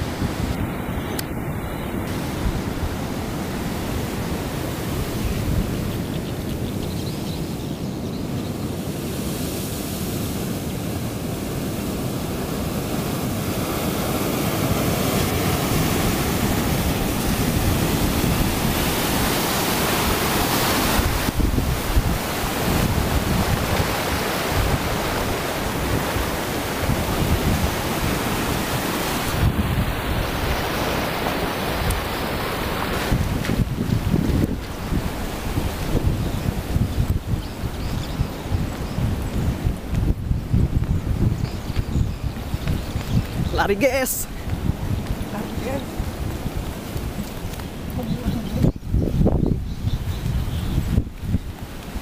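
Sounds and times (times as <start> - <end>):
turbulent water rushing: 0.0 - 52.0.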